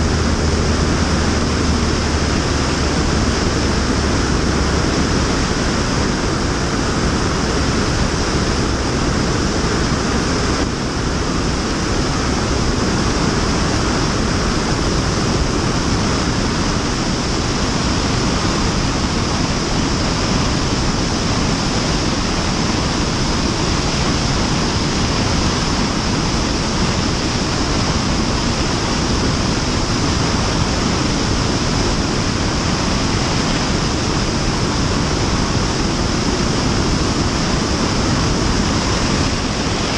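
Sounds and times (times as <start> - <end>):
airflow rushing over camera: 0.0 - 39.9.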